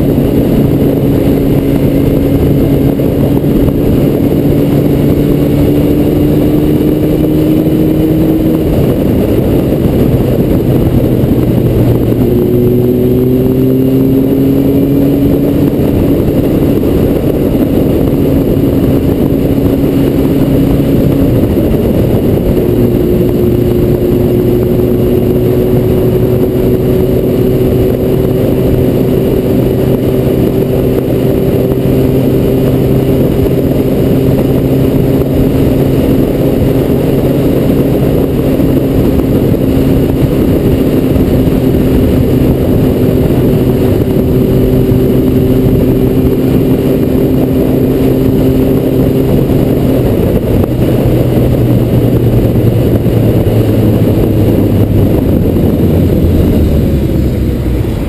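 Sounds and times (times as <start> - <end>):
motorcycle engine running: 0.0 - 58.0
wind rush over camera: 0.0 - 58.0.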